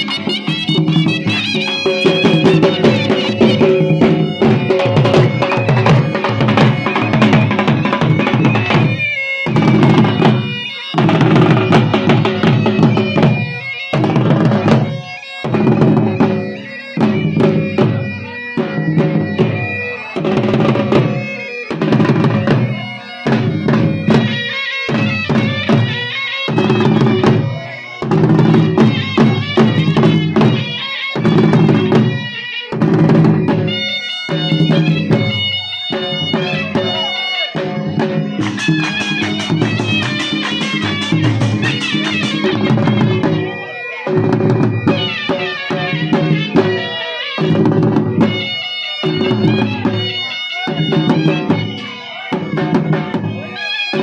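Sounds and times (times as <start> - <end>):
dhol drum beating: 0.0 - 54.0
reed pipe melody: 0.0 - 54.0.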